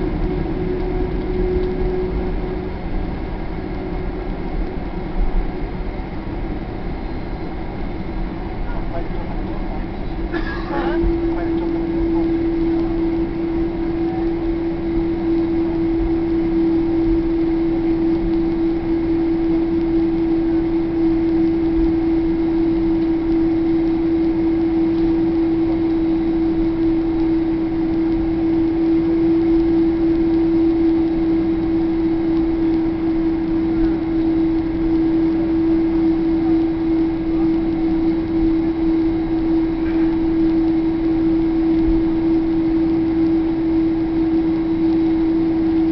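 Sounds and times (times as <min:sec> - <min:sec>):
airplane cabin droning hum: 0:00.0 - 0:45.9.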